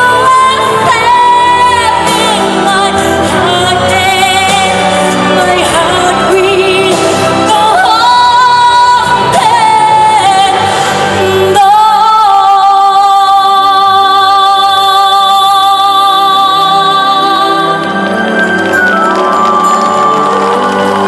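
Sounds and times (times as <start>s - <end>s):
woman singing pop song: 0.0s - 18.1s
backing music: 0.0s - 21.0s.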